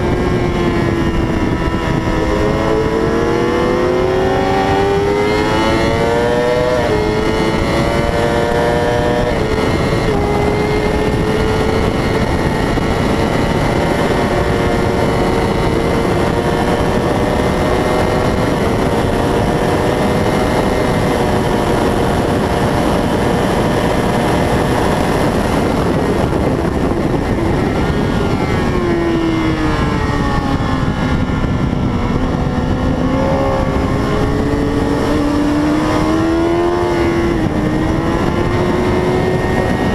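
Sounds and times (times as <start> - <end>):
racing motorcycle engine high revs: 0.0 - 39.9.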